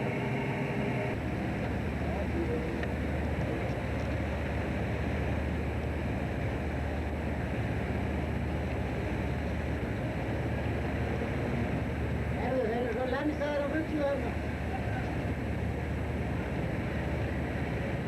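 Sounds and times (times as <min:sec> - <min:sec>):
boat engine running: 0:00.0 - 0:18.0
sea noise: 0:00.0 - 0:18.0
wind: 0:00.0 - 0:18.0.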